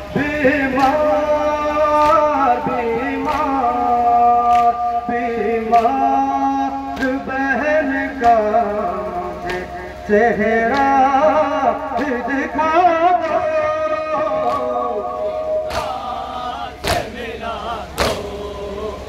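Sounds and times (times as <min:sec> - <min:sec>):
person singing a lament: 0:00.0 - 0:19.0.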